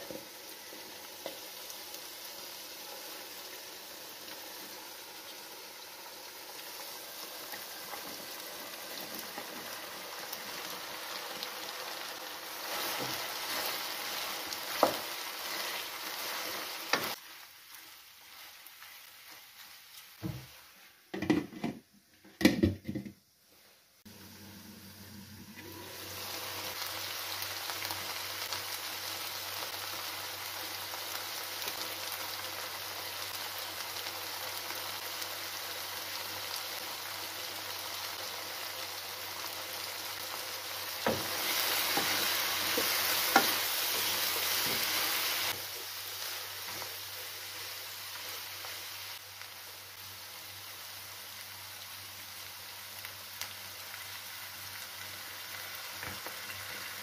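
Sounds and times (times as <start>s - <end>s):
food sizzling in a wok: 0.0s - 21.8s, 23.3s - 57.0s.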